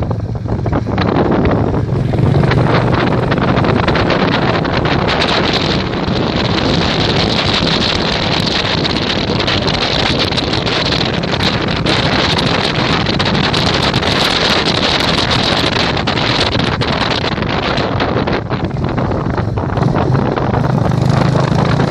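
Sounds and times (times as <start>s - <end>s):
strong wind buffeting microphone: 0.0s - 21.9s.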